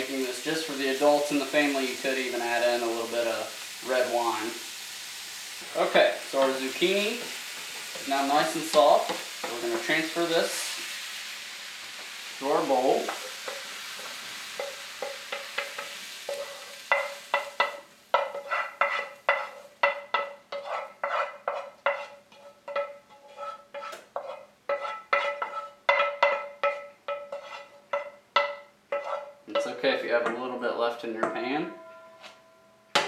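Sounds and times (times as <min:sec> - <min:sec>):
sizzle from hot pan: 0:00.0 - 0:29.7.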